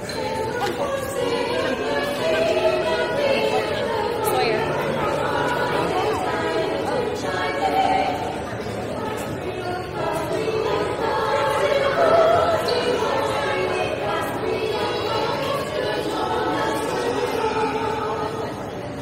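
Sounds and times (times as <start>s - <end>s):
vocal ensemble singing in harmony: 0.0s - 19.0s.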